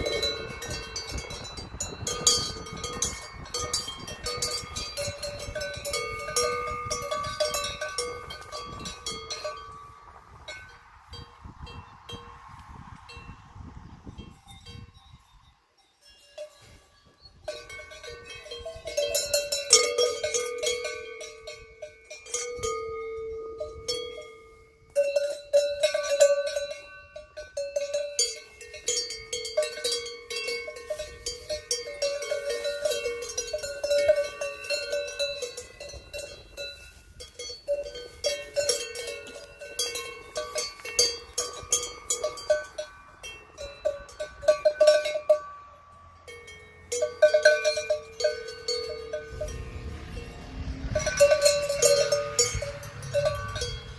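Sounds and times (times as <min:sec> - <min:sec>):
cowbells clanking: 0:00.0 - 0:12.4, 0:14.2 - 0:53.9.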